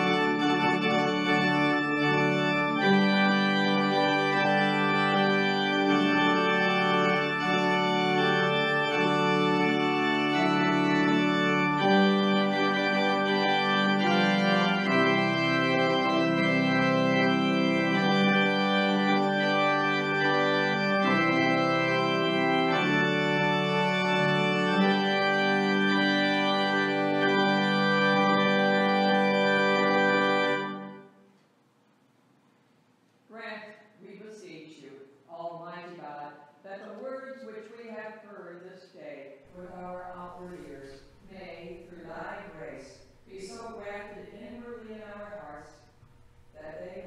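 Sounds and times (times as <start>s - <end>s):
church organ chords: 0.0s - 31.3s, 39.5s - 47.0s.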